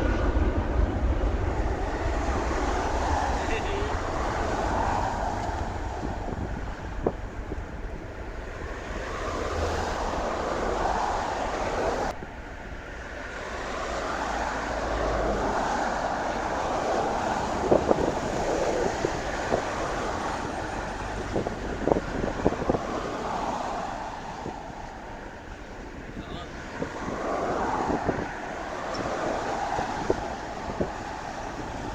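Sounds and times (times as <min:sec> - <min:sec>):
crackles from wind gusts: 0:00.0 - 0:31.9
wind buffeting microphone: 0:00.0 - 0:31.9.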